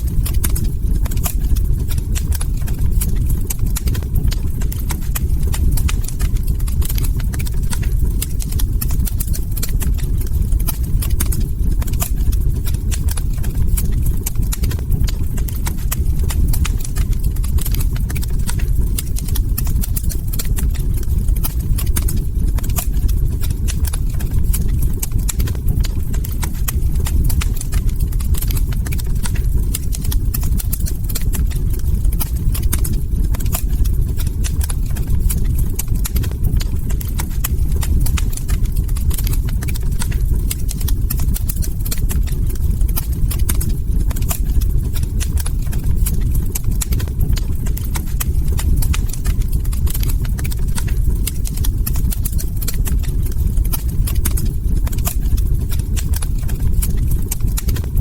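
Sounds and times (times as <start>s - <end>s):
log fire crackling: 0.0s - 58.0s.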